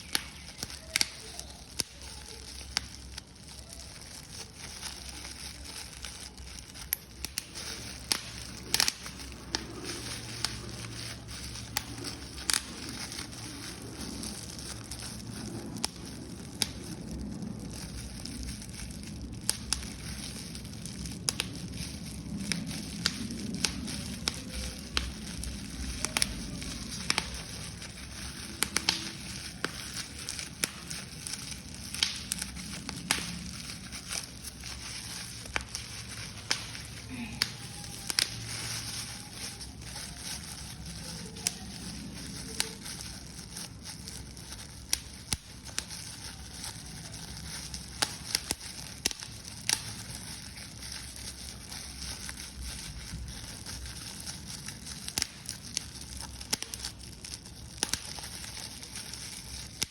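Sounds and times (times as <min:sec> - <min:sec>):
paper being crumpled: 0:00.0 - 0:59.9.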